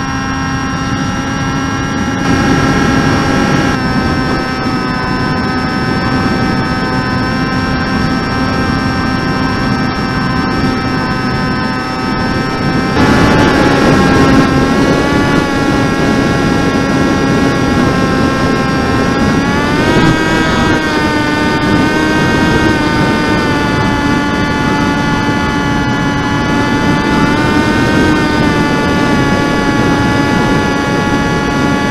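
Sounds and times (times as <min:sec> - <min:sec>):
electric motor and propeller whine: 0:00.0 - 0:31.9.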